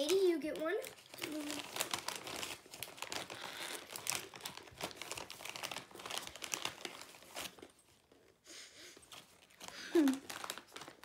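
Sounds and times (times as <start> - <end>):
plastic snack bag crinkling: 0.0 - 8.4, 9.0 - 11.0.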